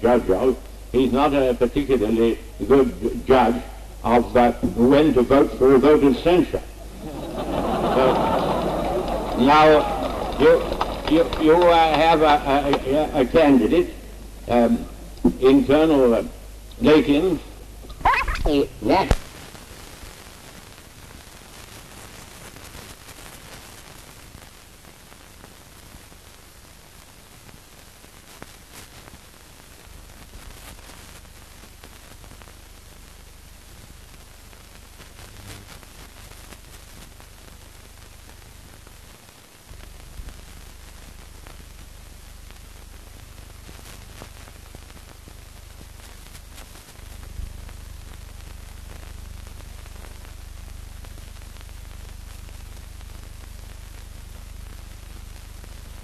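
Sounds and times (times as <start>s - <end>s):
film soundtrack hiss and crackle: 0.0s - 56.0s.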